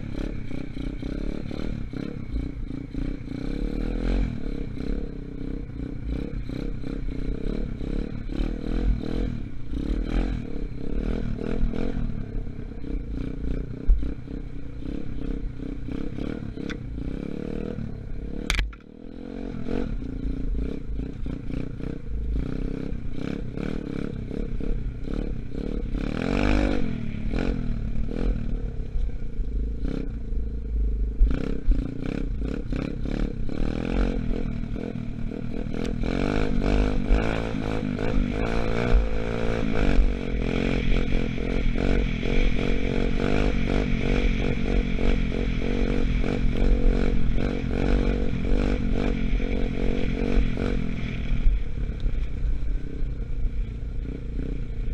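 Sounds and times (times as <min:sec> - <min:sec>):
dirt bike engine revving: 0:00.0 - 0:28.6, 0:31.2 - 0:51.5.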